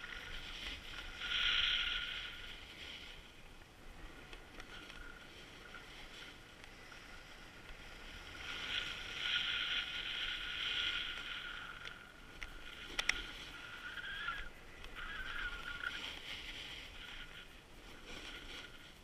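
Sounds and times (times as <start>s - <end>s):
ski edges scraping on snow: 0.0s - 19.0s.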